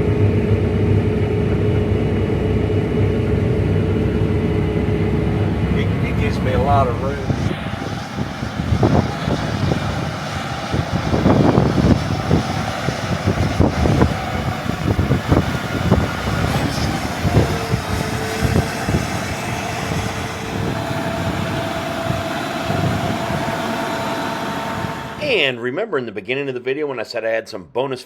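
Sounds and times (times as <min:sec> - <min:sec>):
combine harvester droning: 0:00.0 - 0:25.5
steady hum: 0:00.0 - 0:25.5.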